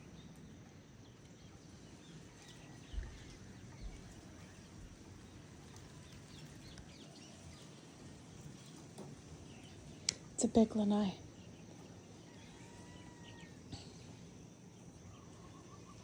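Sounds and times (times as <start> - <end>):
faint rain hiss: 0.0 - 14.8.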